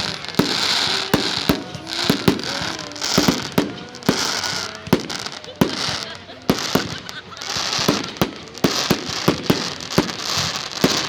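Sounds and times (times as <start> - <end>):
fireworks bangs: 0.0 - 11.0
hissing crackle of shells: 0.0 - 11.0.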